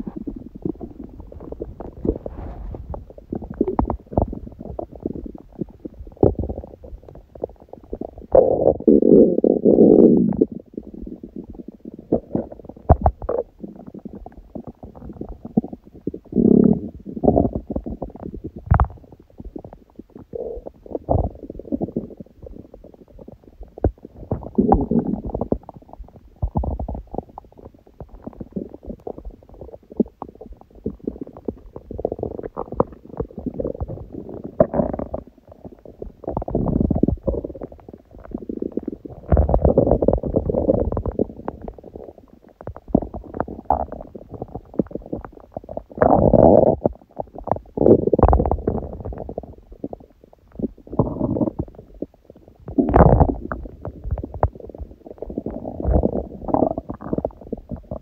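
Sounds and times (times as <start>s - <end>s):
stomach growling: 0.0s - 58.0s.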